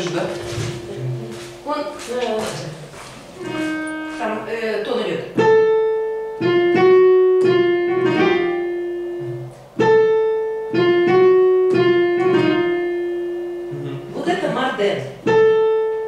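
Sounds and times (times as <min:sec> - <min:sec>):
piano notes: 0:00.0 - 0:16.0.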